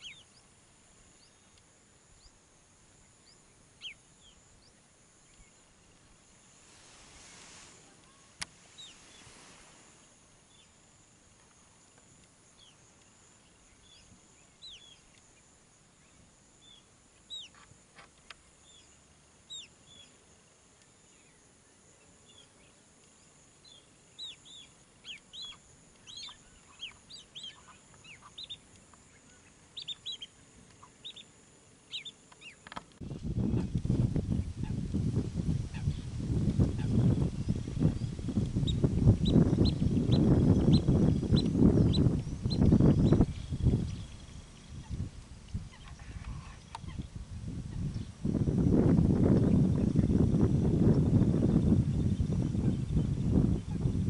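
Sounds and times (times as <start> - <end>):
soft rush of noise: 0.0 - 51.9.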